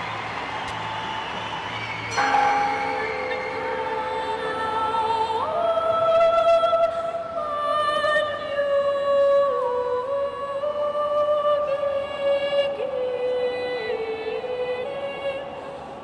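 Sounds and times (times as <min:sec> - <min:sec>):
slow sustained music: 0:00.0 - 0:16.0.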